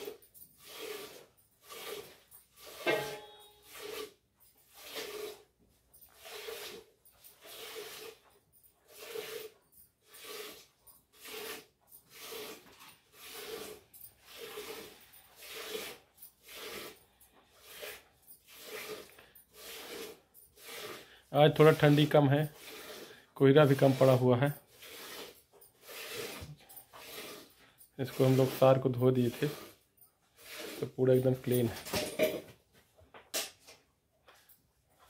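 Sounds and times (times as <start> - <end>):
milk squirting into steel pail: 0.0 - 5.5, 6.1 - 29.8, 30.4 - 31.8.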